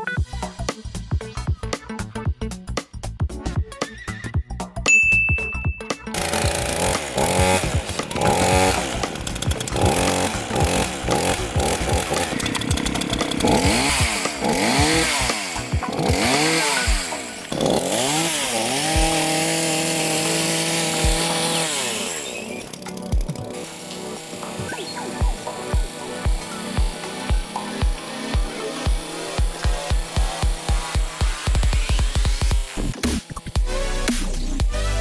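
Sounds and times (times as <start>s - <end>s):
chainsaw engine revving: 6.1s - 35.0s.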